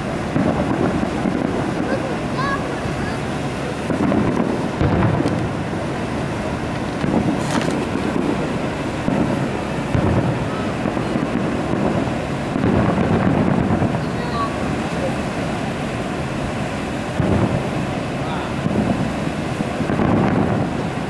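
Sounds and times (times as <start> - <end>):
distant fireworks booms: 0.0 - 21.0
wind buffeting microphone: 0.0 - 21.0.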